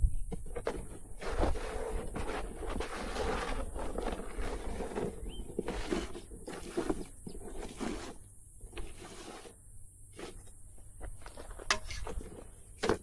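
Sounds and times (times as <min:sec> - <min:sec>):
search coil scraping dry dirt: 0:00.3 - 0:13.0.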